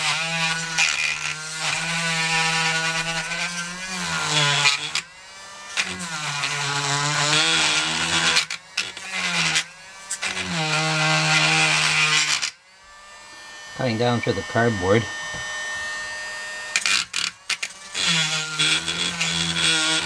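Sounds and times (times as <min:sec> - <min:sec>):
rotary tool whining: 0:00.0 - 0:20.0.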